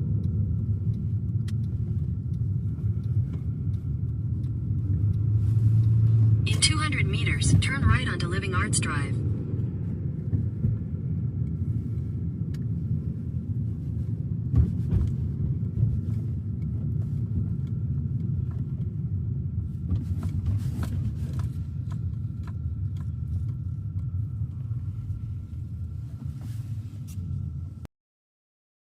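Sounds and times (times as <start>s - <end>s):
road and engine rumble in car: 0.0s - 27.9s.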